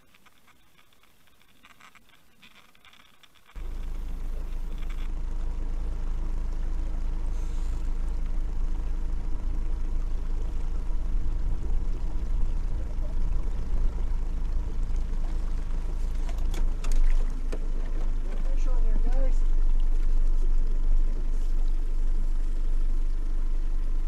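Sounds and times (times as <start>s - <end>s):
outboard motor humming: 0.0s - 24.0s.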